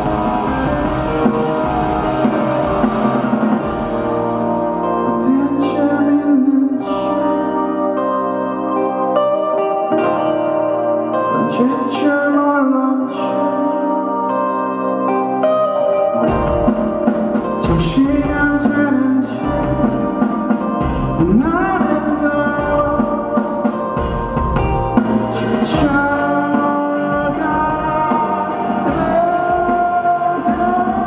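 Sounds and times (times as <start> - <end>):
electric guitar: 0.0 - 31.0
live rock band playing: 0.0 - 31.0
sung melodic line: 0.0 - 31.0.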